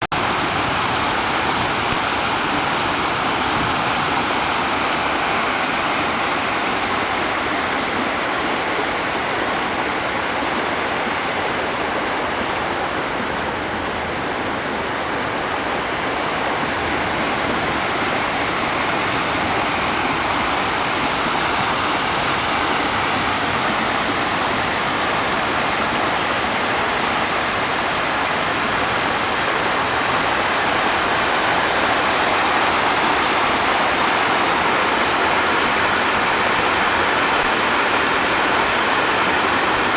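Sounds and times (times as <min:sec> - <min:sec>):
floodwater rushing: 0:00.1 - 0:39.9.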